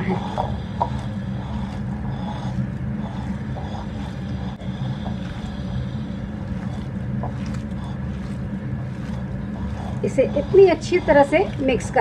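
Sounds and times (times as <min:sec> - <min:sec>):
hands mixing minced meat: 0:00.0 - 0:12.0
low mechanical hum: 0:00.0 - 0:12.0.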